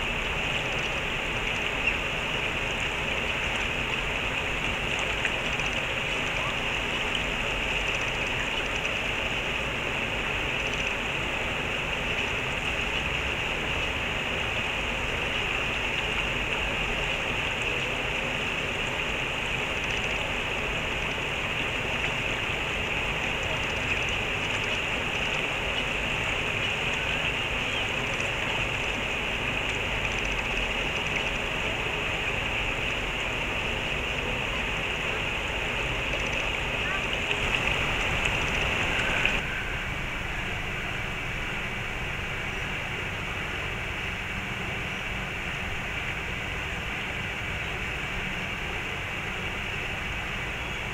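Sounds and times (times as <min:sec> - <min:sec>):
stream water rushing: 0:00.0 - 0:50.9.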